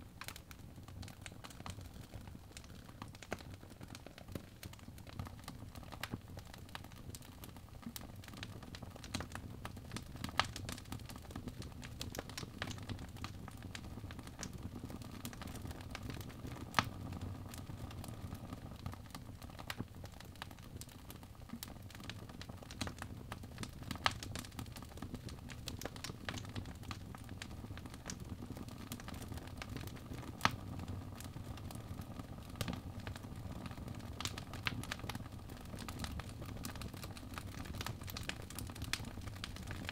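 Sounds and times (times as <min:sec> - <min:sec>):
fire crackling: 0:00.0 - 0:39.9
low rumble of flames: 0:00.2 - 0:39.9.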